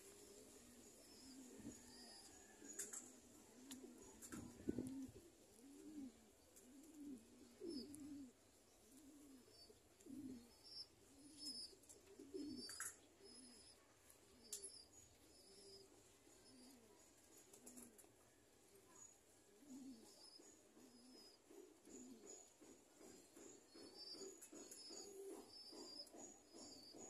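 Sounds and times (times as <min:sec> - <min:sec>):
pigeons cooing: 0:00.0 - 0:18.1, 0:18.8 - 0:27.0.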